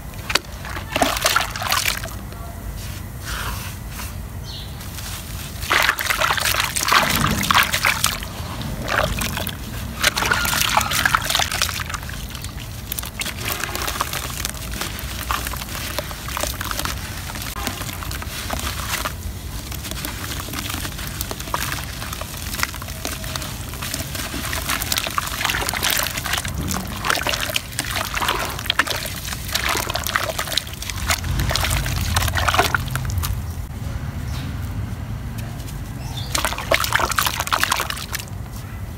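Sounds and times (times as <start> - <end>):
mud sloshing and trickling: 0.0 - 2.3, 4.8 - 33.7, 36.1 - 38.6.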